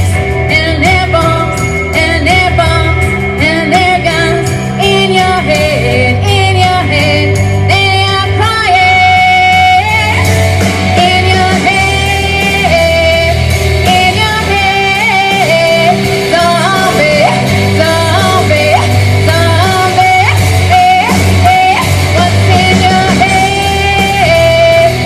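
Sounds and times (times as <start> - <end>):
rock band playing: 0.0 - 25.0
woman singing rock song: 0.0 - 25.0.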